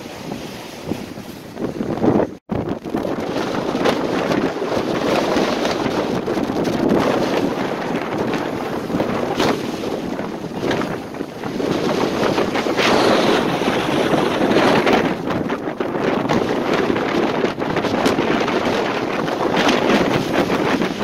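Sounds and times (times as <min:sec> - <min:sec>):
waves breaking against seawall: 0:00.0 - 0:21.0
wind buffeting microphone: 0:00.0 - 0:21.0.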